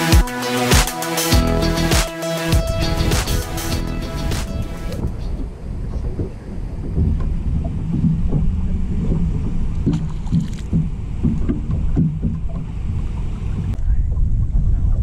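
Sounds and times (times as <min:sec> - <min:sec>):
wind buffeting microphone: 0:02.6 - 0:15.0.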